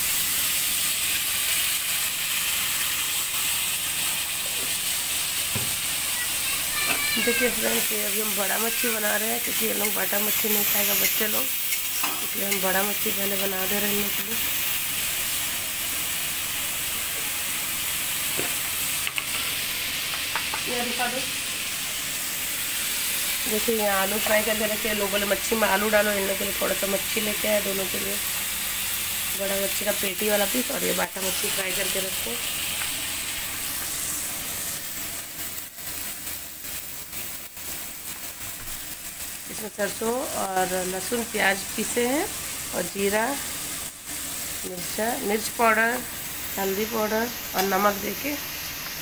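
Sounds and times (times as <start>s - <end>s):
oil sizzling: 0.0s - 49.0s.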